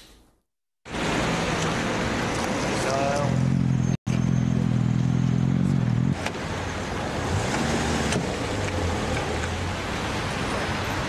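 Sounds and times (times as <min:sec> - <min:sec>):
street noise: 0:00.9 - 0:11.0.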